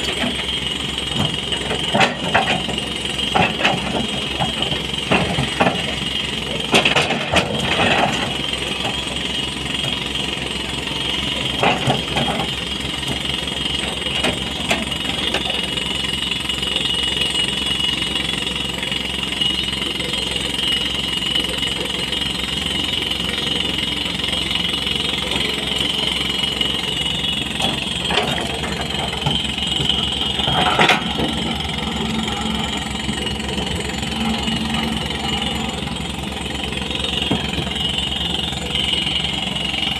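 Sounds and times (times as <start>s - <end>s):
excavator diesel engine whining: 0.0s - 39.9s.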